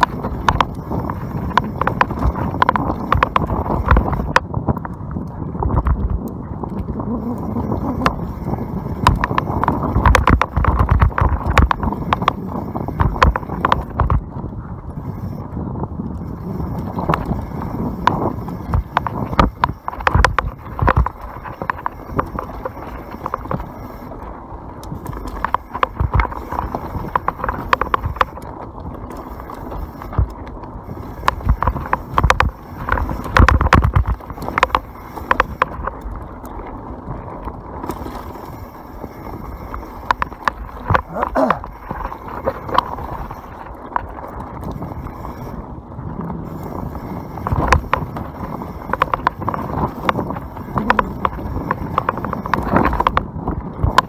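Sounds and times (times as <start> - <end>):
bike chain and frame rattling: 0.0 - 54.0
bike tyres over dirt and rocks: 0.0 - 54.0.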